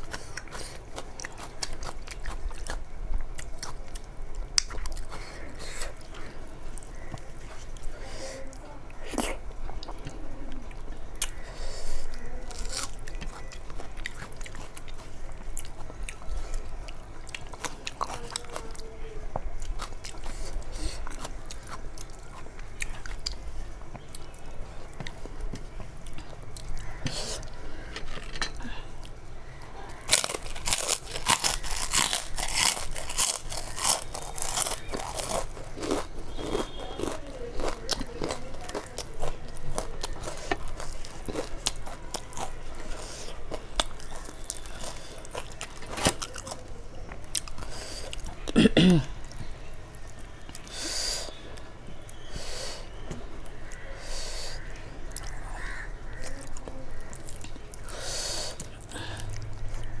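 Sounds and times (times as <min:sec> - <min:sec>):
crunching and chewing: 0:00.0 - 1:00.0.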